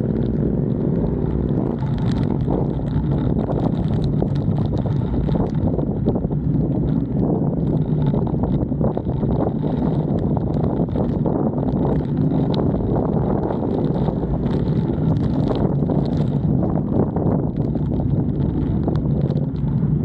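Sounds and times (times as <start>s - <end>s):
motorcycle running at speed: 0.0s - 20.0s
wind buffeting microphone: 0.0s - 20.0s.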